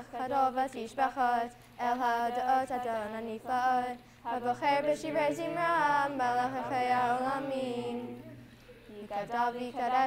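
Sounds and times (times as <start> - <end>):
voices singing a prayer melody: 0.0 - 10.0.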